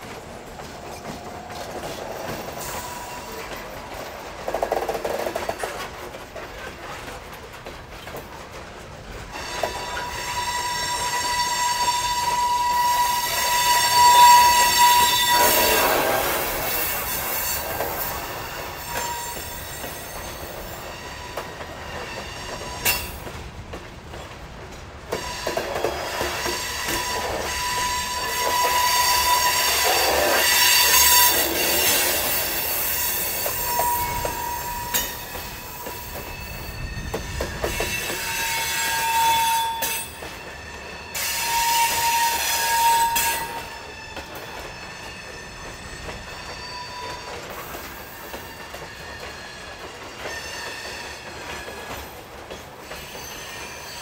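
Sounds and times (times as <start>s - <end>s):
track creaking: 0.0s - 54.0s
train rolling past: 0.0s - 54.0s
high wheel squeal: 1.8s - 3.6s, 9.3s - 23.2s, 25.2s - 54.0s.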